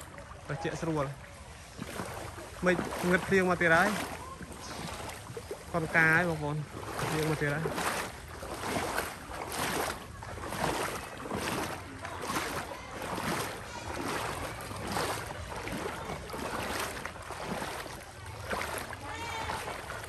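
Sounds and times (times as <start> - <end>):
floodwater swishing and splashing: 0.0 - 20.0.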